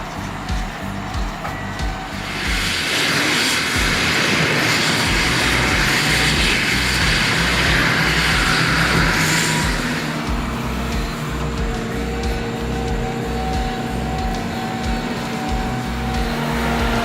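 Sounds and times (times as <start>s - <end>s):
deep pulsing rumble: 0.0s - 3.0s, 3.8s - 17.0s
heavy machinery running: 0.0s - 17.0s.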